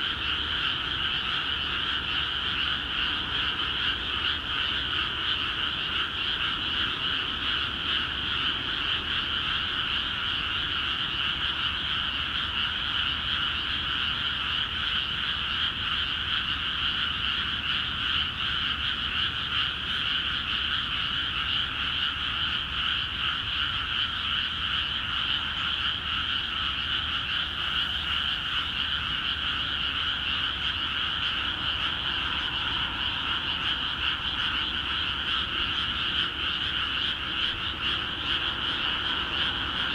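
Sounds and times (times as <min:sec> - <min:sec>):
frogs croaking in chorus: 0:00.0 - 0:39.9.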